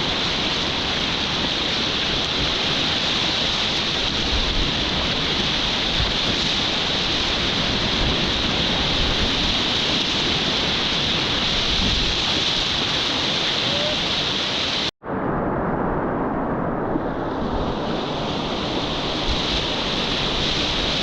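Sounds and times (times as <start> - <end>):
whitewater rapids rushing: 0.0 - 14.9, 18.0 - 21.0.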